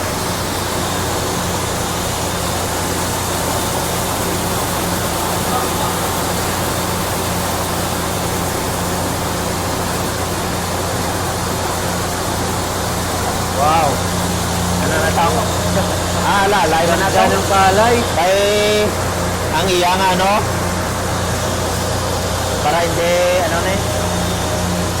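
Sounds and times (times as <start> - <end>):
electric motor hum: 0.0 - 25.0.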